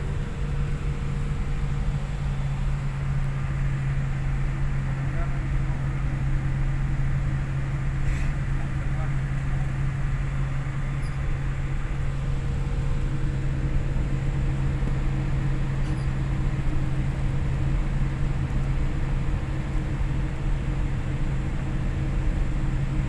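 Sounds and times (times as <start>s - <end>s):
airliner cabin drone: 0.0s - 23.0s.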